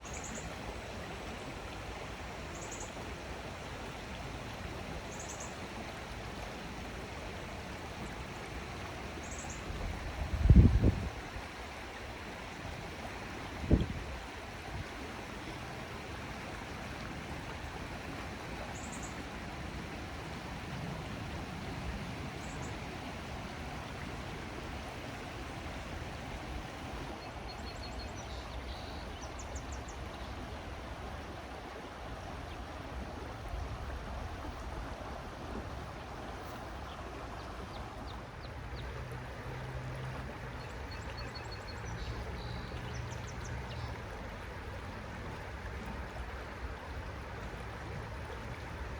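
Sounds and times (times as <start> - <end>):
river water flowing: 0.0 - 48.9.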